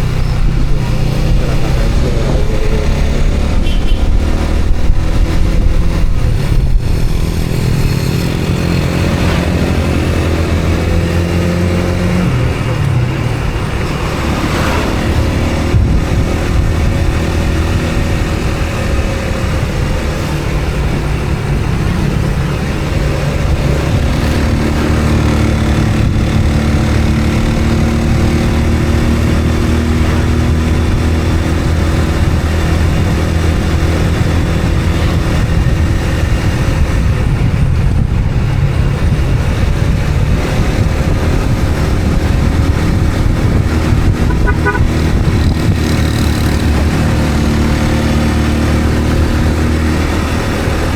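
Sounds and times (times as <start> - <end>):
road and wind noise: 0.0 - 50.9
vehicle engine running: 0.0 - 50.9.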